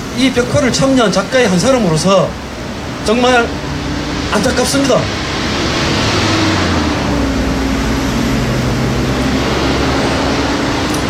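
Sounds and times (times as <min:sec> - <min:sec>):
engine running with hiss and hum: 0:00.0 - 0:11.0.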